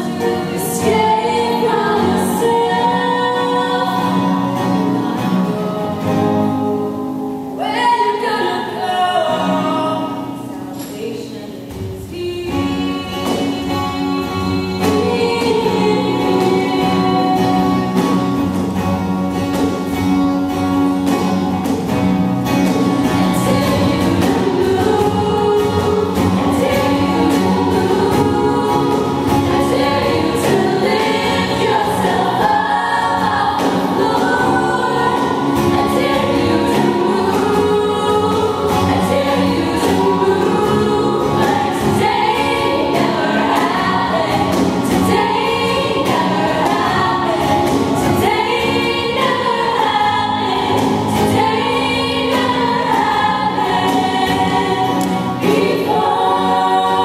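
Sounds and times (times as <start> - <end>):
women singing in harmony: 0.0 - 18.9, 23.0 - 57.0.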